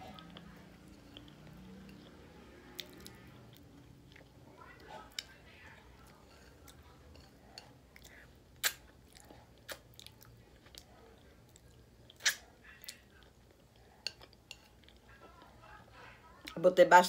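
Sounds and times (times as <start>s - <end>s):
chewing and lip smacking: 0.1s - 15.5s.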